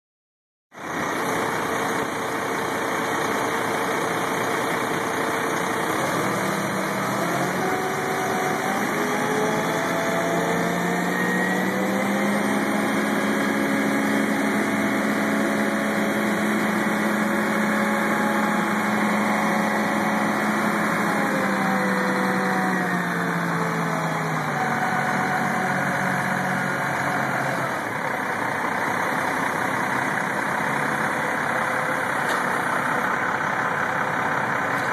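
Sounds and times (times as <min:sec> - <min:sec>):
crane engine running: 0:00.8 - 0:34.9.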